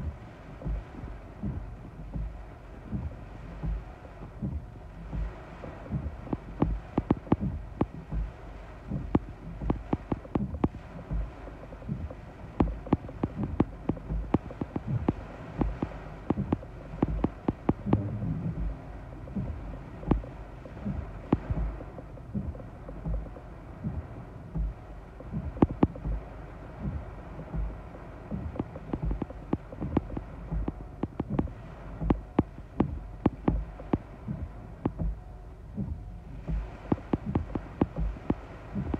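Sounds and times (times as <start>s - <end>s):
rain tapping on car windshield: 0.0s - 38.9s
wind gusts thudding against car: 0.0s - 38.9s.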